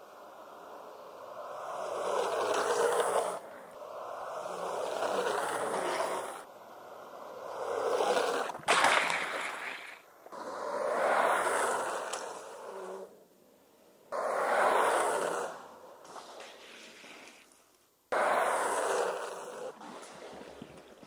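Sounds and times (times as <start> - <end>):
longboard wheels rolling on asphalt: 0.0 - 21.0.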